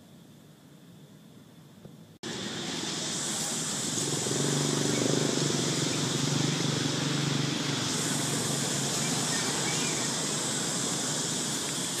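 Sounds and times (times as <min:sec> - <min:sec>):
outdoor background hiss: 0:00.0 - 0:12.0
low engine hum: 0:02.2 - 0:12.0.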